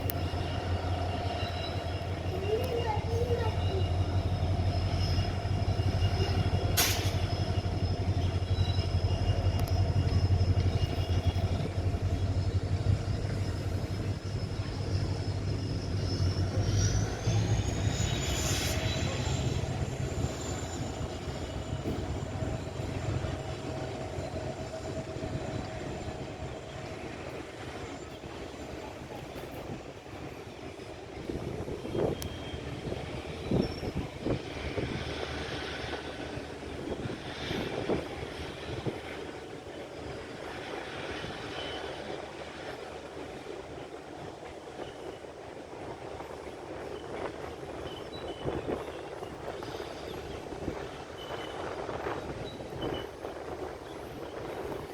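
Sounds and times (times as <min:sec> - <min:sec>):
locomotive engine hum with whine: 0:00.0 - 0:54.9
train wagons clanking: 0:00.0 - 0:54.9
train wheel squeals: 0:00.0 - 0:54.9.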